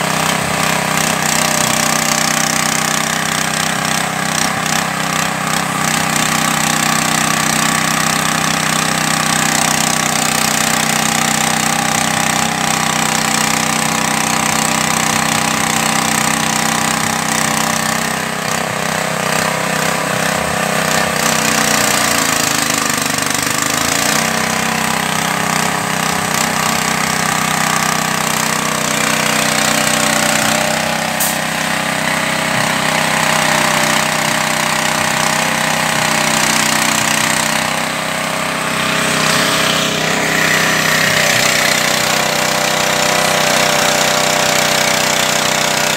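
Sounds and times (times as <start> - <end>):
small engine rattling drone: 0.0 - 45.9.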